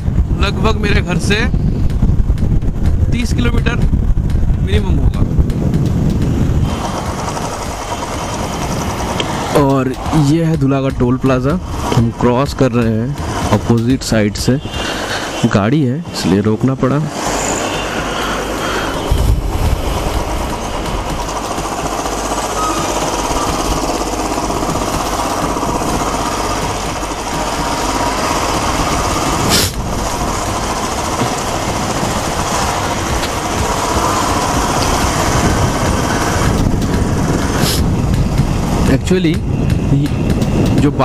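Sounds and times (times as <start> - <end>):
motorcycle engine running: 0.0 - 14.7, 17.3 - 41.0
wind and road noise: 0.0 - 41.0.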